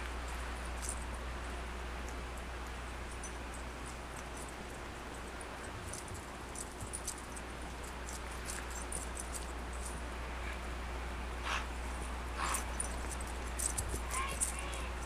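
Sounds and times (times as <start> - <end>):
background hiss and hum: 0.0 - 15.0
light clicks and jingles: 0.0 - 15.0.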